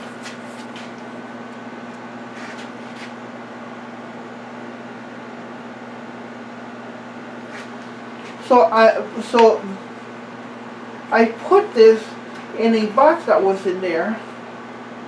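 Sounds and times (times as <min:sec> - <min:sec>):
room background hum: 0:00.0 - 0:15.0.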